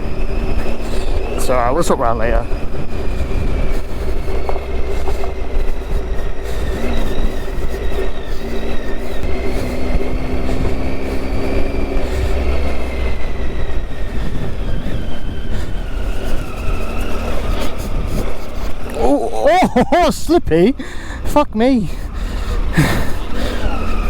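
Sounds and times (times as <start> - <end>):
low rumble on microphone: 0.0 - 21.3
motorcycle engine running: 0.0 - 24.0.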